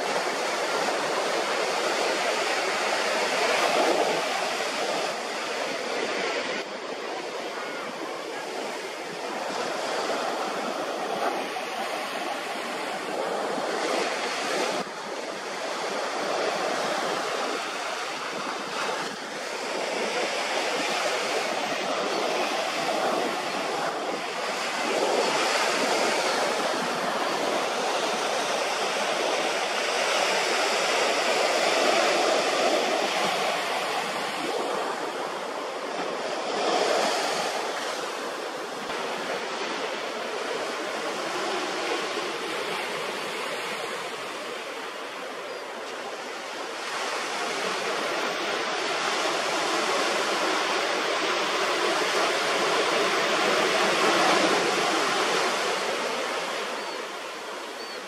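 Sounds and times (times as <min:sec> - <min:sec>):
ocean surf washing on beach: 0:00.0 - 0:58.0.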